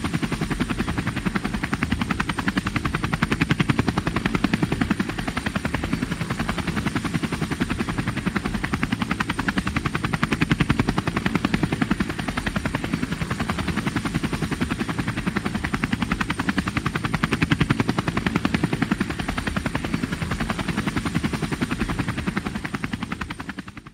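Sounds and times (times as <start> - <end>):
helicopter engine running: 0.0 - 23.9
helicopter rotor blades chopping: 0.0 - 23.9.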